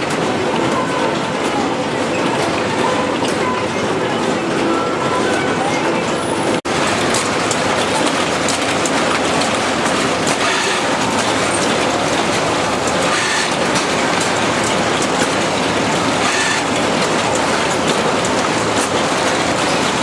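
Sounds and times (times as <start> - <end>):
conveyor machinery running: 0.0 - 20.0.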